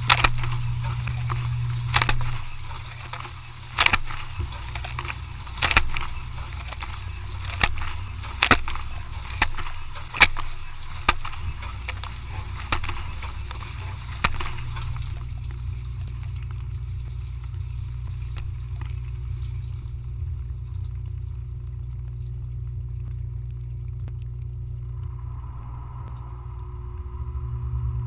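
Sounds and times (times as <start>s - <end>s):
water sloshing: 0.0s - 27.2s
dishwasher motor hum: 0.0s - 28.0s.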